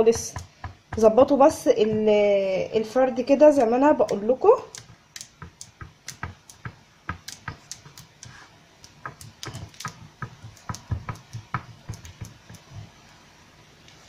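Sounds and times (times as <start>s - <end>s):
dough tapping against metal pan: 0.0s - 2.2s, 3.5s - 12.8s.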